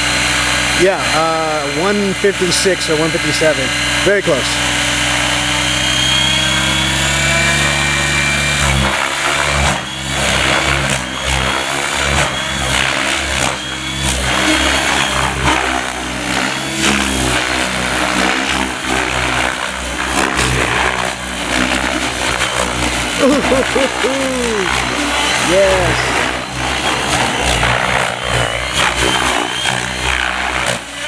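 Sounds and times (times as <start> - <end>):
model helicopter rotor and motor: 0.0 - 31.0.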